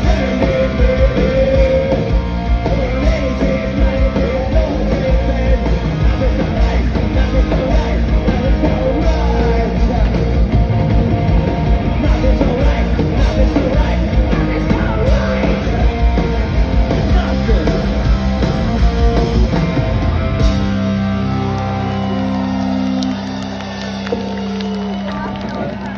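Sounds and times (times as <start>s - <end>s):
distorted guitars: 0.0s - 25.9s
drums: 0.0s - 25.9s
live rock band playing: 0.0s - 25.9s.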